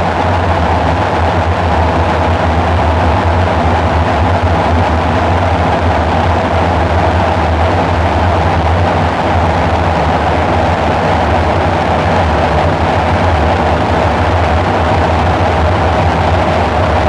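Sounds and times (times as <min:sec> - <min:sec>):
dark ambient synthesizer drone: 0:00.0 - 0:17.0.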